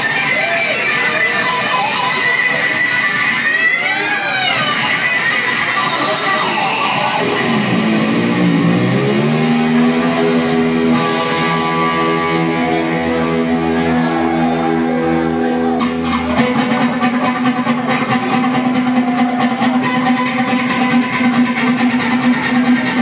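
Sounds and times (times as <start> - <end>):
electric guitar: 0.0 - 23.0
live rock band playing: 0.0 - 23.0.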